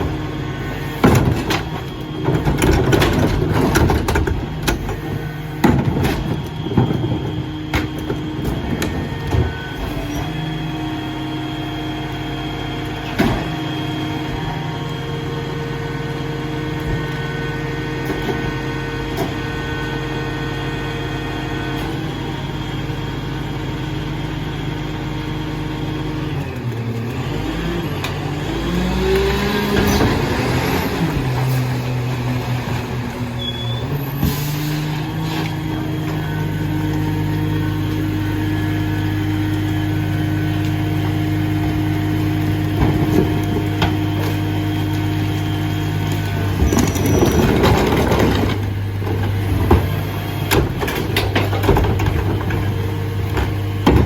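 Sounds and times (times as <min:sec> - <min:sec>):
garbage truck diesel engine running: 0:00.0 - 0:54.0.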